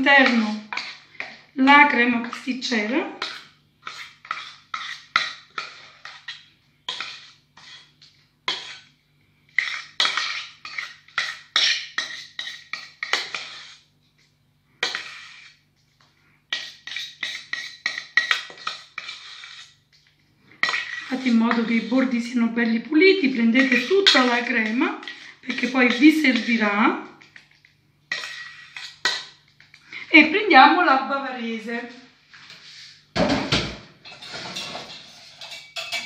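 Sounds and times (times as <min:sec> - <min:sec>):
spatula scraping a metal pot: 0:00.0 - 0:13.9, 0:14.8 - 0:15.7, 0:16.5 - 0:29.8, 0:34.1 - 0:36.0.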